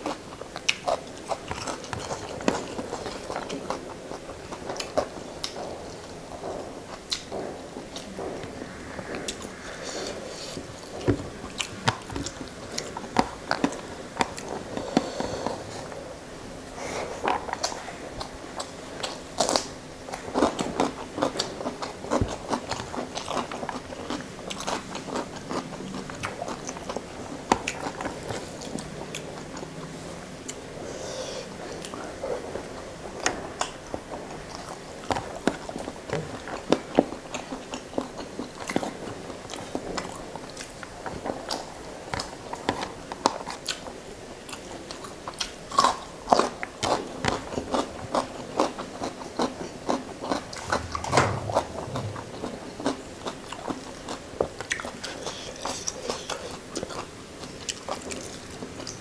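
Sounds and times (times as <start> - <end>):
man chewing wetly: 0.0 - 16.2, 16.8 - 59.0.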